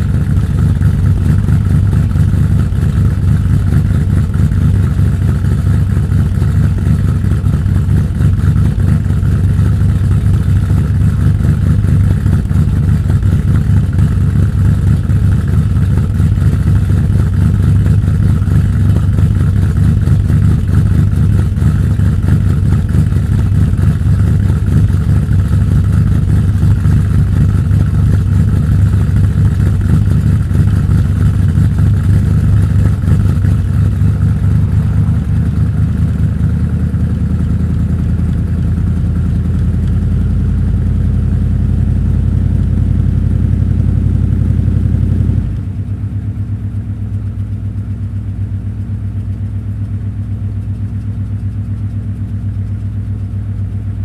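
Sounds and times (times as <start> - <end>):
car engine idling through exhaust: 0.0 - 54.0.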